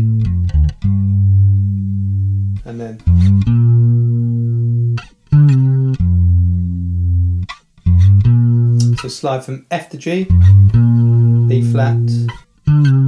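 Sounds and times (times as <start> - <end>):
fretless electric bass notes: 0.0 - 9.1, 10.2 - 13.0.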